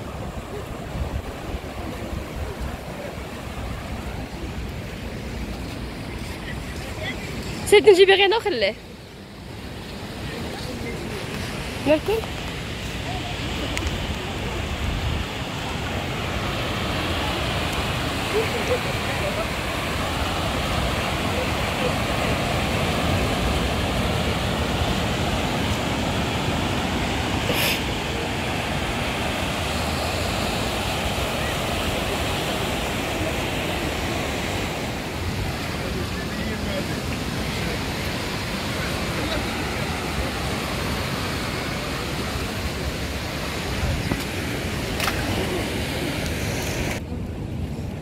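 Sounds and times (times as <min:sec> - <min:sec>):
surf breaking on beach: 0:00.0 - 0:08.4, 0:09.3 - 0:48.0.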